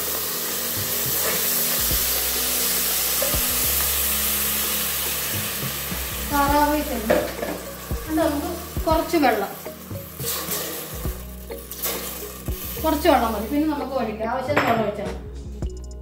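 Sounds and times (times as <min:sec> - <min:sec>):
meat sizzling in a pan: 0:00.0 - 0:14.0.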